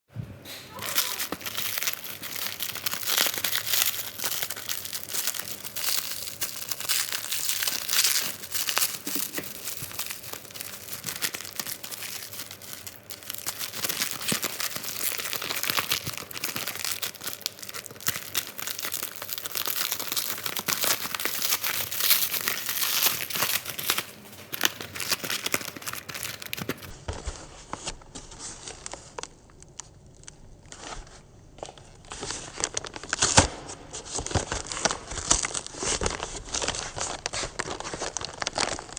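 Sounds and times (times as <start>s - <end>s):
crinkling and rustling: 0.5s - 38.9s.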